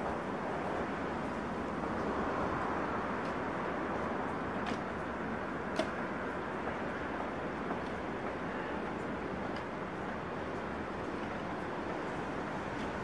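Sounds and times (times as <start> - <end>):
wind or distant traffic: 0.0 - 13.0.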